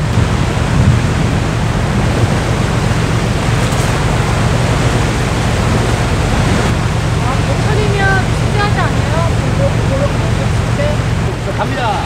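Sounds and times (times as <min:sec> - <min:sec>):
sea water washing against rocks: 0:00.0 - 0:12.0
wind rumble on microphone: 0:00.0 - 0:12.0.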